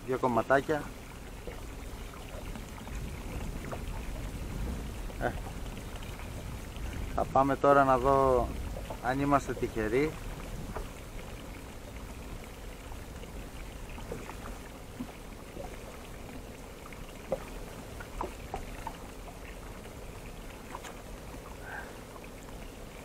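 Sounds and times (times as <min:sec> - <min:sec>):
low steady rumble: 0:00.0 - 0:23.0
water lapping against boat: 0:00.0 - 0:23.0.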